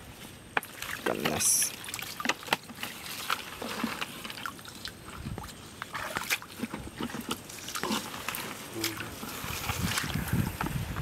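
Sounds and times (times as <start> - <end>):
hand squelching in mud and water: 0.6 - 10.7.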